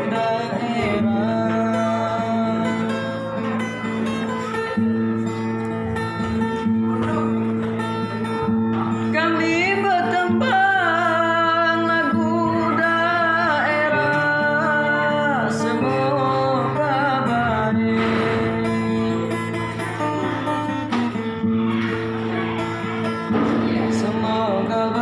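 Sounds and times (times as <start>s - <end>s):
plucked acoustic guitar: 0.0s - 25.0s.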